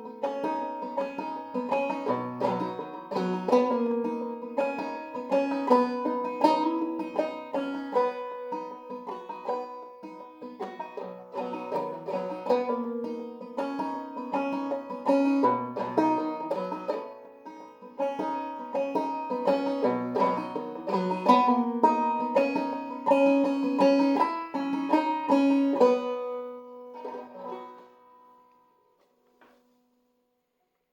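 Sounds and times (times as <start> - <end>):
banjo plucked notes: 0.0 - 28.8.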